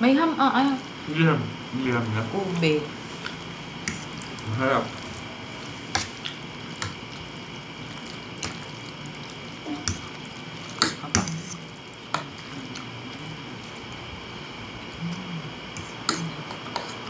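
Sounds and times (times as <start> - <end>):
soft stirring of spaghetti: 0.8 - 17.0.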